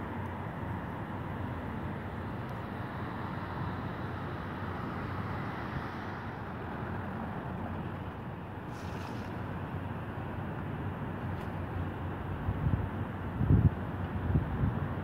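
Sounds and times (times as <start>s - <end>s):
outdoor rushing roar: 0.0s - 15.0s.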